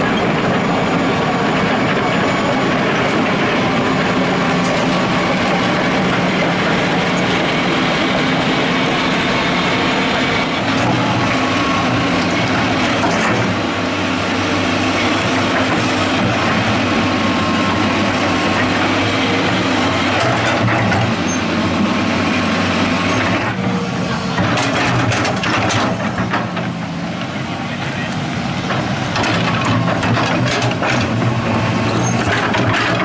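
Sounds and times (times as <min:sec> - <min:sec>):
excavator diesel engine humming: 0:00.0 - 0:33.0
steel tracks clattering and creaking: 0:00.0 - 0:33.0.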